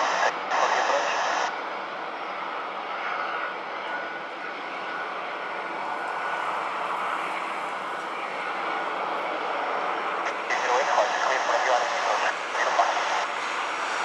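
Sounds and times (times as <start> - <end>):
jet airliner engines overhead: 0.0 - 14.0.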